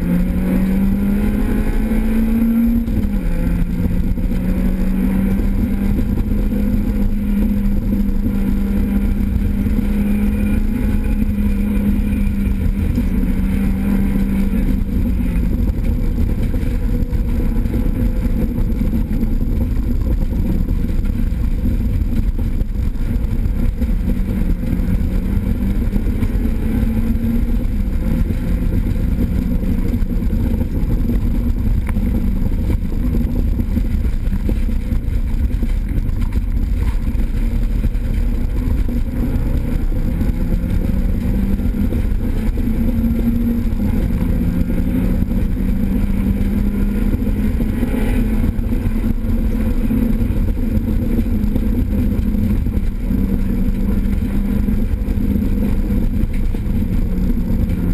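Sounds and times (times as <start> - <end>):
rally car engine running hard: 0.0 - 57.9
road and mechanical noise: 0.0 - 57.9.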